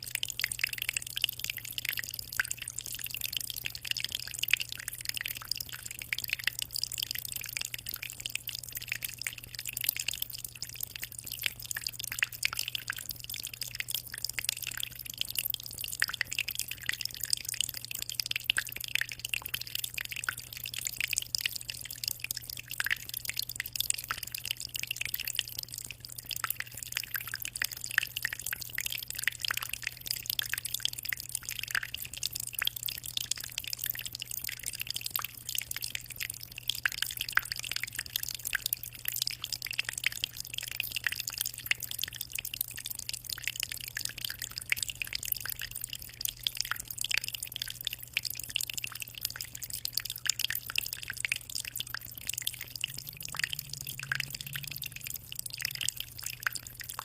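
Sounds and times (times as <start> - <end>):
aquarium water trickling: 0.0 - 57.0
low steady hum: 0.0 - 57.0.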